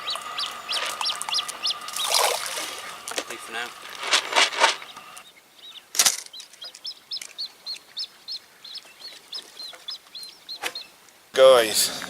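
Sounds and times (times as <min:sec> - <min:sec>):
small bird chirping: 0:00.0 - 0:11.2.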